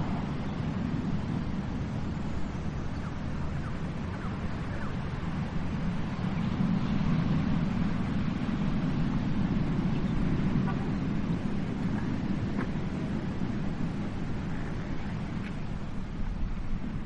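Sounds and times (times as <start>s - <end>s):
sea surf rumbling: 0.0s - 17.0s.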